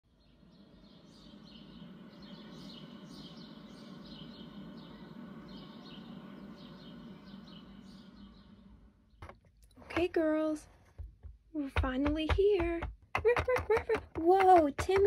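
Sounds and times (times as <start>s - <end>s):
low steady hum: 0.1s - 13.2s
small birds chirping: 0.1s - 15.0s.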